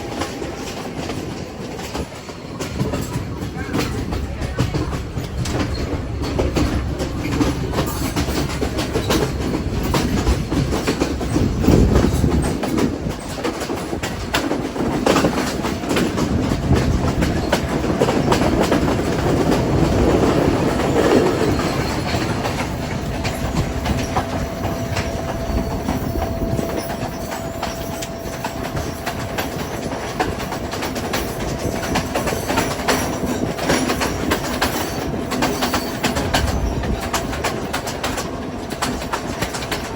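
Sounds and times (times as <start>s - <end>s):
carriages rattling: 0.0s - 39.9s
train wheels clacking: 0.0s - 39.9s.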